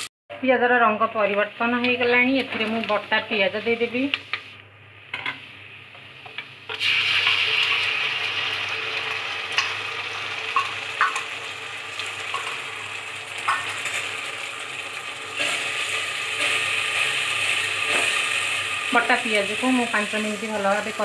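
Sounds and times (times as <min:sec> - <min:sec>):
onion paste sizzling in oil: 0:01.4 - 0:21.0.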